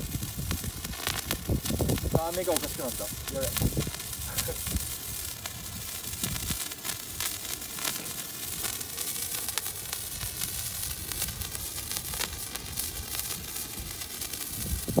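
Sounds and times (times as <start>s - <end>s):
spray firework hissing and crackling: 0.0s - 15.0s.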